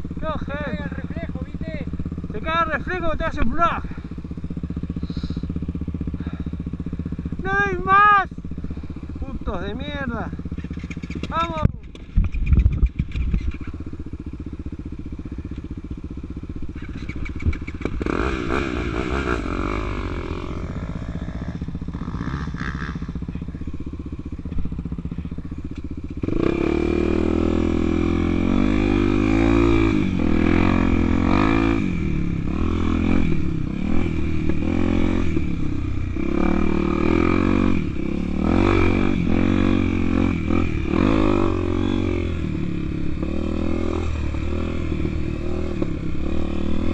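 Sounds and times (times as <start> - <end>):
dirt bike engine revving: 0.0 - 12.1, 12.8 - 46.9.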